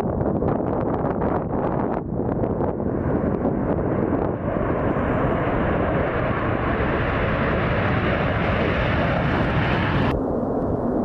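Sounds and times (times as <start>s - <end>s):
jet taking off: 0.4s - 11.0s.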